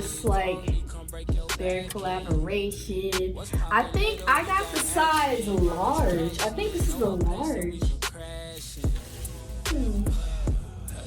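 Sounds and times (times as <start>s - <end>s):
music with deep bass and beat: 0.0s - 11.0s.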